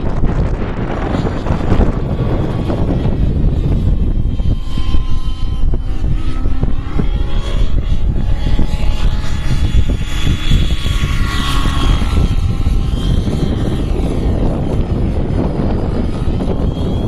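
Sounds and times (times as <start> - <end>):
heavy low rumble: 0.0 - 17.0
model helicopter engine whining: 0.0 - 17.0.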